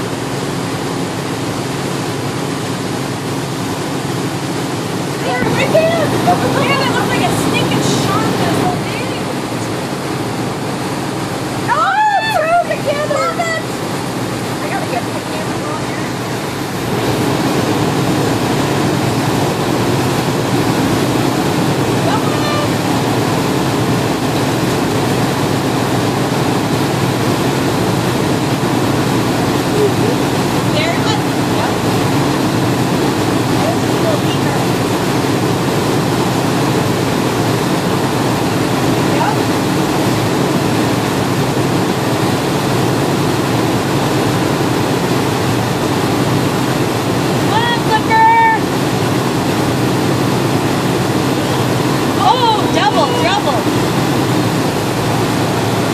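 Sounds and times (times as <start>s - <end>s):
churning wake rushing: 0.0s - 55.9s
motorboat engine running: 0.0s - 55.9s.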